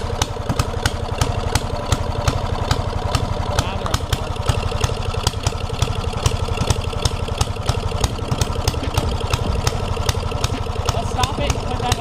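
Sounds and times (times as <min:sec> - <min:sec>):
sharp exhaust cracks: 0:00.0 - 0:12.0
small engine running rough: 0:00.0 - 0:12.0.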